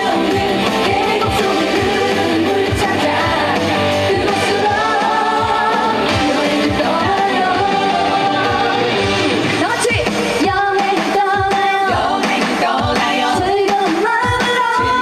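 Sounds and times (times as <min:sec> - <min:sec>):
woman singing: 0:00.0 - 0:08.9, 0:09.6 - 0:15.0
live band backing: 0:00.0 - 0:15.0
steady drum beat: 0:00.0 - 0:15.0.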